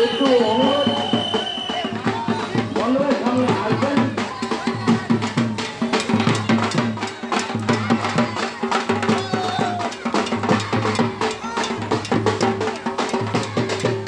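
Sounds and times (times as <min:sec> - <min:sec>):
barrel drums beaten fast: 0:00.0 - 0:14.0.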